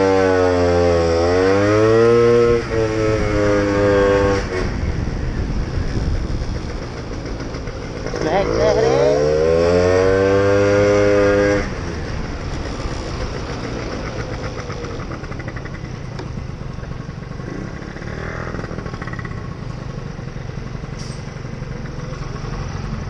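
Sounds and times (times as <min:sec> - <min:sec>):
road rumble: 0:00.0 - 0:23.0
wind: 0:00.0 - 0:23.0.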